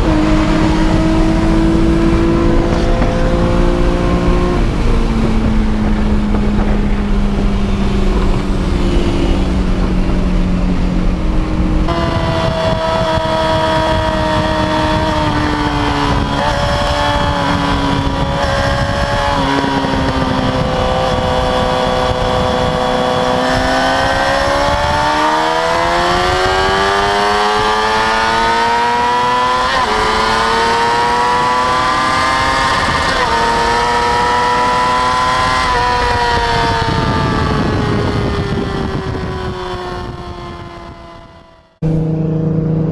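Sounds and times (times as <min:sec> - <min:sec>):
car engine accelerating hard: 0:00.0 - 0:42.9.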